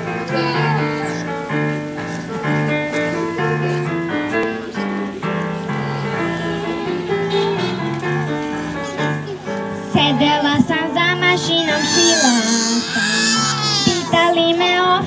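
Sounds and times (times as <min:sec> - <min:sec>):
keyboard melody with bass line: 0:00.0 - 0:14.2.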